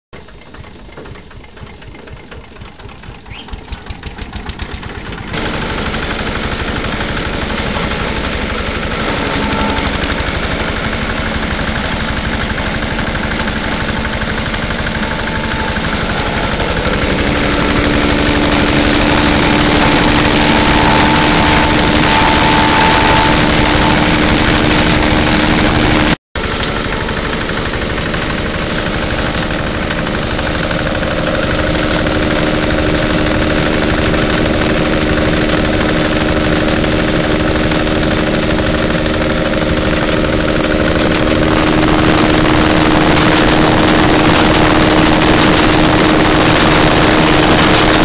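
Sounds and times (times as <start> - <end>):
straw chopper engine running: 0.2 - 48.0.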